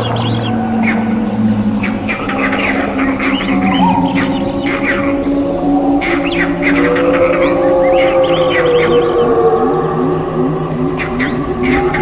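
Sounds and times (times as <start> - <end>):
long low-pitched animal call: 0.0 - 12.0
steady droning tones: 0.0 - 12.0.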